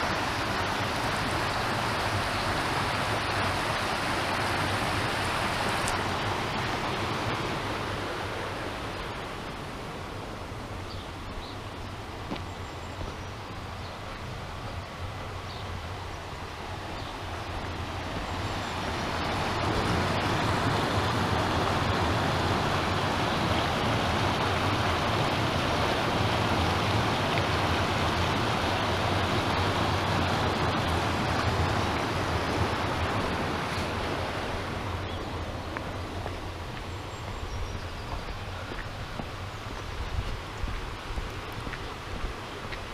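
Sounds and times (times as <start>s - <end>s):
stream rushing over stones: 0.0s - 42.9s.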